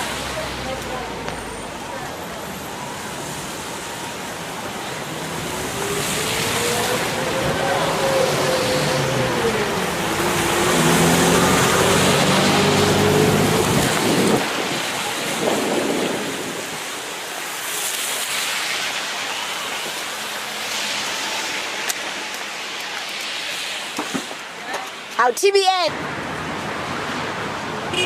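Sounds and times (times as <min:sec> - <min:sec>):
constant rushing noise: 0:00.0 - 0:28.0.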